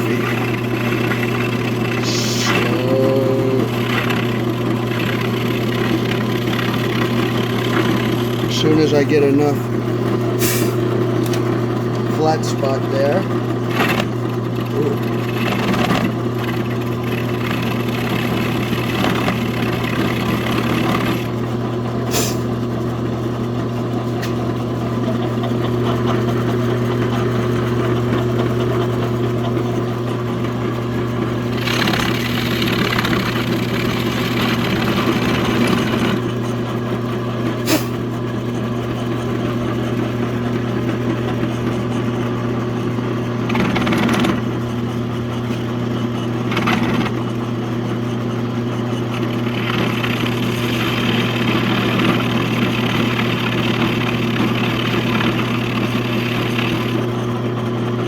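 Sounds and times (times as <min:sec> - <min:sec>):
end mill cutting metal: 0:00.0 - 0:21.6, 0:25.6 - 0:37.9, 0:38.6 - 0:57.5
machine tool motor running: 0:00.0 - 0:58.0.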